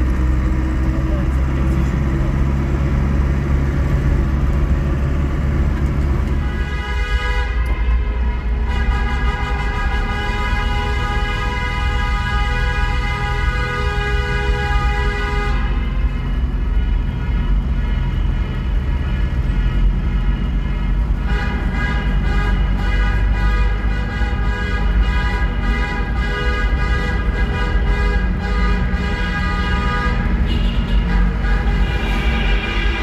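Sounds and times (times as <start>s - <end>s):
tunnel traffic rumble: 0.0s - 33.0s
car horns: 6.2s - 33.0s.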